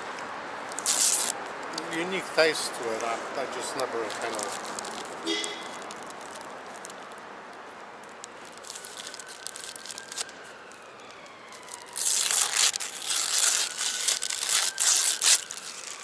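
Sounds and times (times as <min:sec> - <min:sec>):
wrapper crinkling and tearing: 0:00.7 - 0:02.1, 0:03.0 - 0:16.0.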